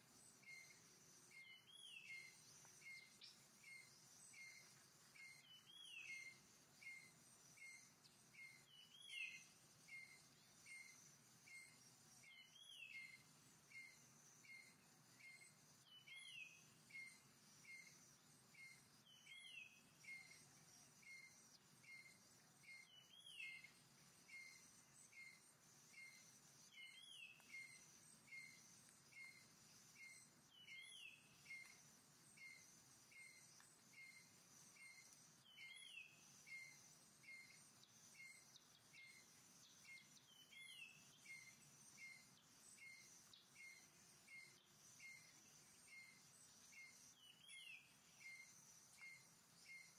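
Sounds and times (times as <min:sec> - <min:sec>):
insect drone: 0:00.0 - 0:49.9
bird chirping: 0:00.1 - 0:49.9.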